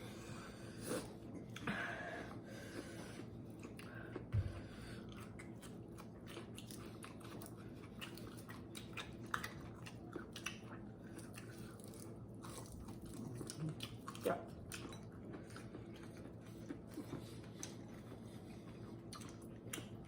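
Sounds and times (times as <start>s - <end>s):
person chewing: 3.2s - 20.0s.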